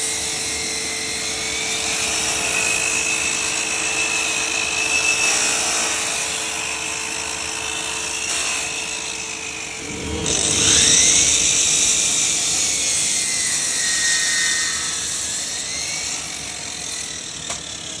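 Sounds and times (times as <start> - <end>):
power tool motor whining: 0.0 - 18.0.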